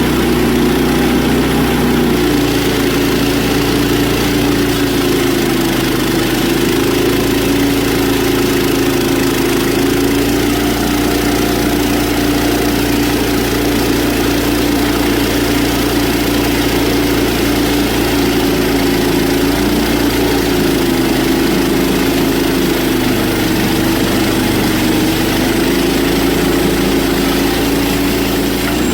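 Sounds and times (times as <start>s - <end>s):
sawmill engine running: 0.0s - 28.9s.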